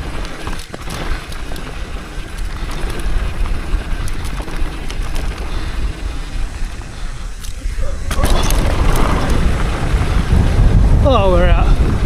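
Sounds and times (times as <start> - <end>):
bike rattling and knocking: 0.0 - 12.0
bike tyre rumbling on dirt trail: 0.0 - 12.0
wind on microphone: 1.8 - 12.0.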